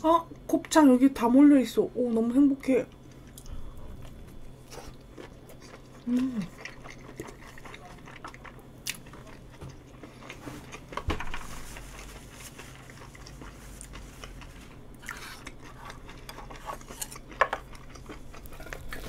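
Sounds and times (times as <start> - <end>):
person chewing food: 2.9 - 19.0.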